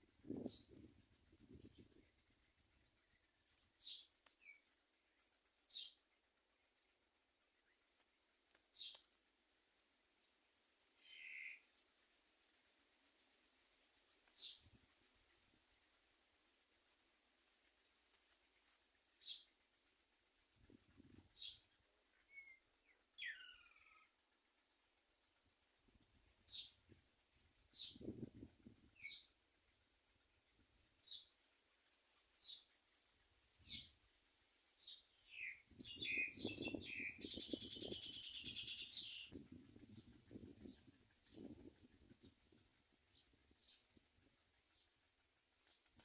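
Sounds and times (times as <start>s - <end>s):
birds chirping faintly: 0.0s - 46.0s.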